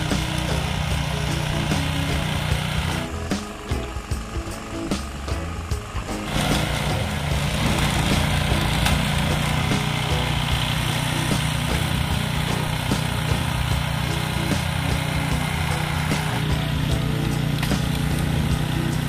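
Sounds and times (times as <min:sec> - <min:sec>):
auger throwing snow: 0:00.0 - 0:05.2, 0:05.8 - 0:19.0
snow blower engine running: 0:00.0 - 0:19.0.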